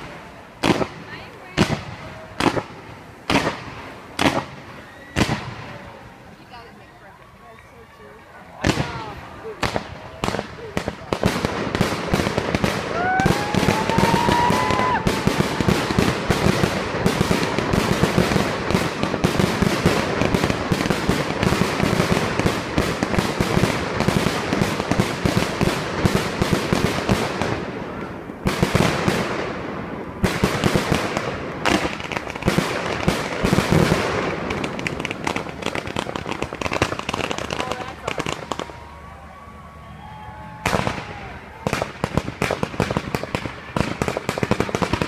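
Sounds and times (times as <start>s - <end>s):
fireworks crackling and banging: 0.0s - 45.0s.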